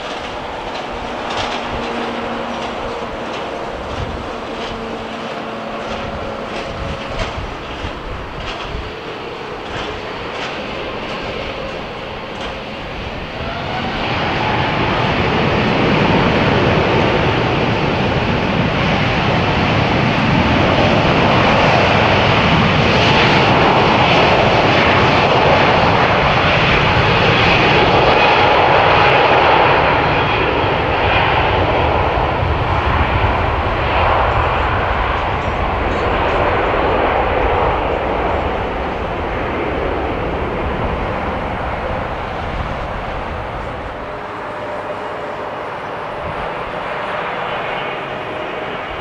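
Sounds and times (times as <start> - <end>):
jet engines rushing: 0.0 - 49.0.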